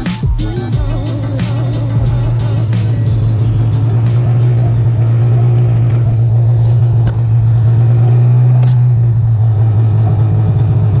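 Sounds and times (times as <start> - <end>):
snowmobile engine droning: 0.6 - 11.0.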